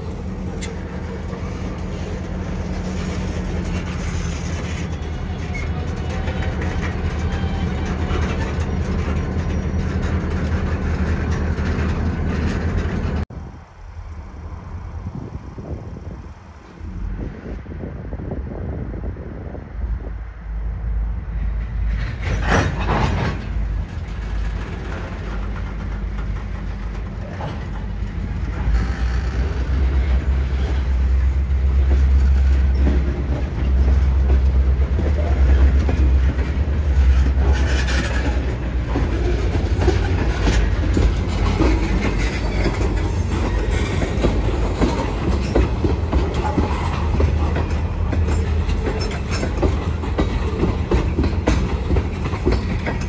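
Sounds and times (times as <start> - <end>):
freight cars rattling on rails: 0.0 - 13.5, 21.1 - 53.0
diesel locomotive engine rumble: 0.0 - 53.0.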